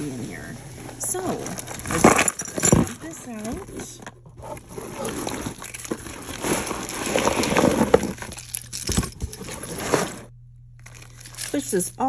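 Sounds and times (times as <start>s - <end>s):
jewelry clattering and clinking: 0.4s - 12.0s.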